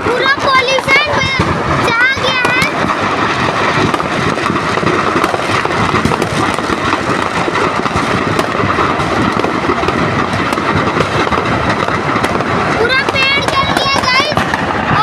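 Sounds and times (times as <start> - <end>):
firecrackers crackling and popping: 0.0 - 15.0.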